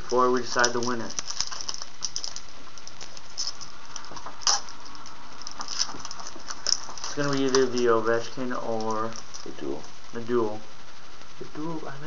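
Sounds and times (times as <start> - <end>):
cards being handled: 0.0 - 9.9
wrapper crinkling: 0.0 - 11.4
steady hiss: 0.0 - 12.0.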